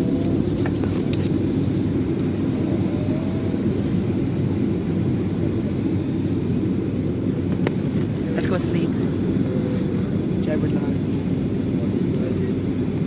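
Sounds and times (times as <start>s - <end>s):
jet cabin engine roar: 0.0s - 13.0s.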